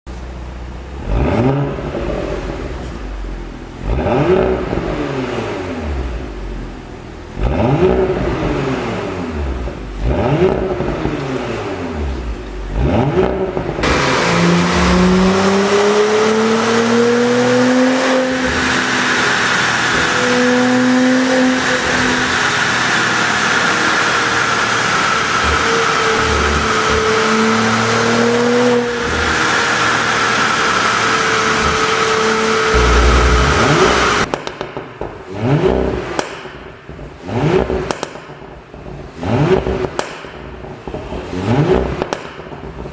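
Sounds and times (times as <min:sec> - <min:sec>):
car driving: 0:00.1 - 0:42.9
car engine revving: 0:00.7 - 0:42.9.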